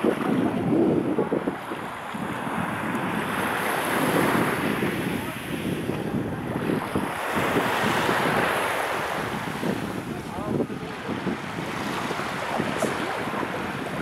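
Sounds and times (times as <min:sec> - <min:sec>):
sea waves washing onto beach: 0:00.0 - 0:14.0
wind buffeting microphone: 0:00.0 - 0:14.0.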